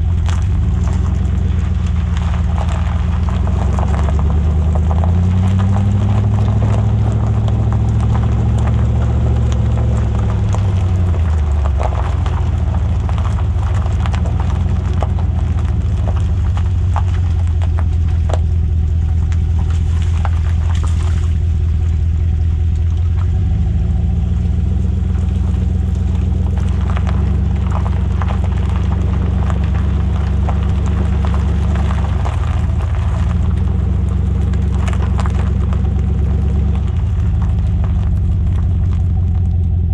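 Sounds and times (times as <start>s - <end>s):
engine exhaust deep rumble: 0.0s - 39.9s.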